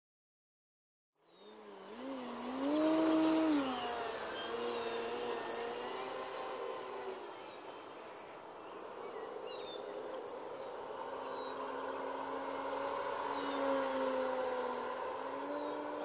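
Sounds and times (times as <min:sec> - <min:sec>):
model plane motor droning whine: 0:01.2 - 0:16.0.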